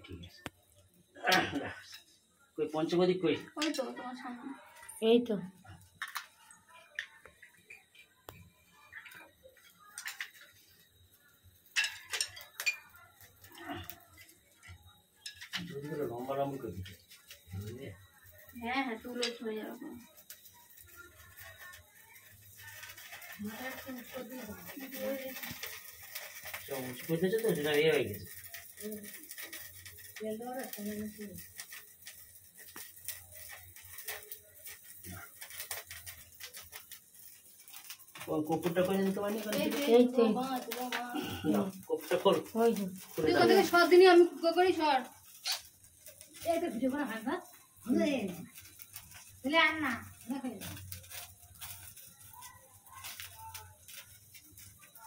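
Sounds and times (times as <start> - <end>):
wood fire crackling and popping: 0.0 - 55.0
small hard objects clicking: 4.8 - 55.0.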